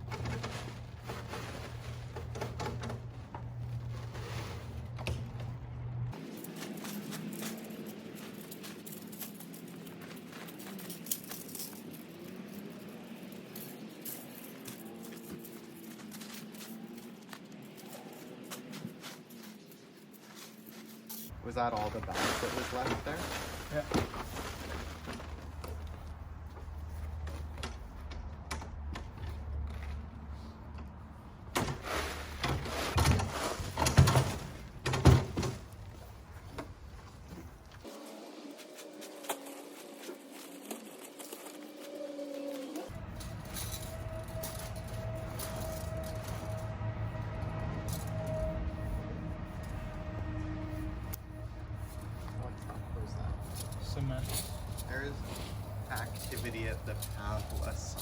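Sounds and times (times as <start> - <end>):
woodchips rustling and scraping: 0.0 - 28.3, 31.8 - 58.0.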